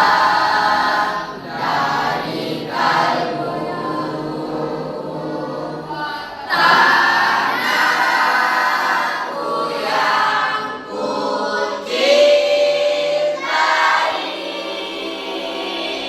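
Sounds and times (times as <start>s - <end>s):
choir singing in unison: 0.0s - 16.0s.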